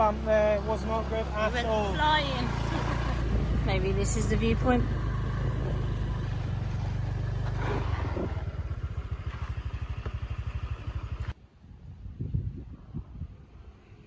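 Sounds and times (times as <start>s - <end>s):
scooter engine idling: 0.0s - 11.4s.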